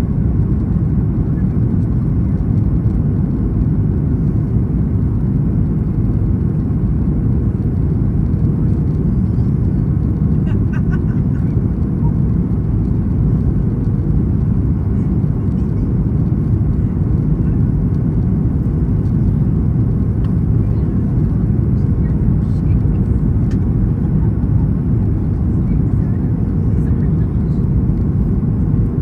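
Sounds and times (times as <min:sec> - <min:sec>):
airliner cabin roar: 0:00.0 - 0:29.0.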